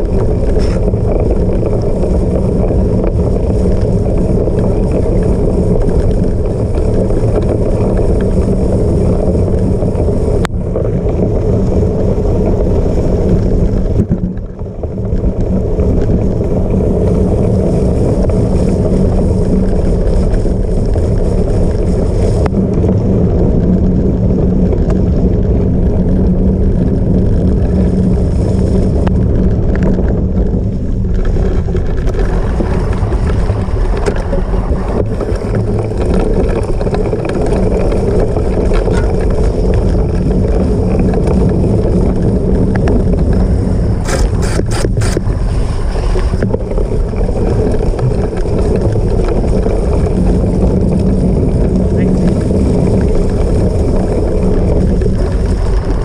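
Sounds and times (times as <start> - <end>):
bike rumbling over rough ground: 0.0 - 56.0
wind on microphone: 0.0 - 56.0.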